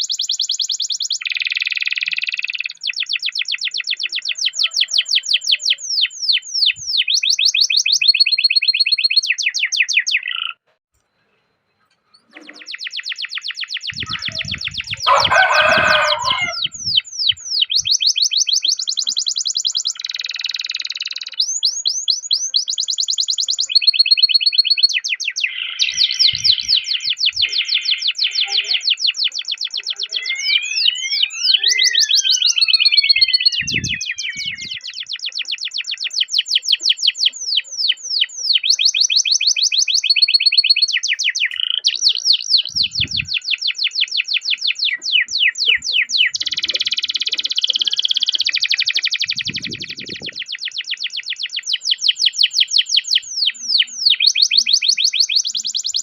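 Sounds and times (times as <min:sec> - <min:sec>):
canary singing: 0:00.0 - 0:10.7, 0:11.8 - 0:56.0.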